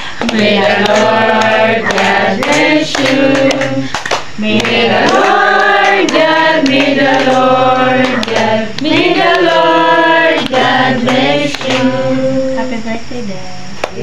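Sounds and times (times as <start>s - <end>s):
group singing: 0.0s - 12.9s
hands clapping: 0.2s - 12.0s, 13.8s - 14.0s.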